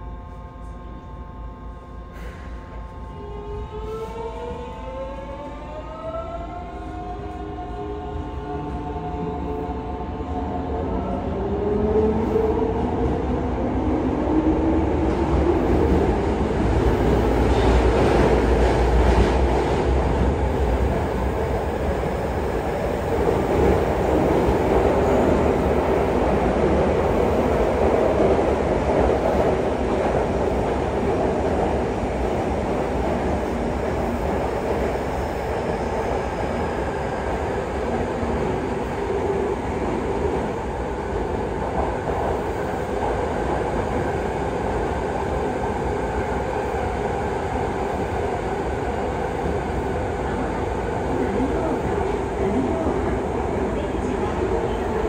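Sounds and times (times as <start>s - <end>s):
subway train rumble in tunnel: 0.0s - 55.0s.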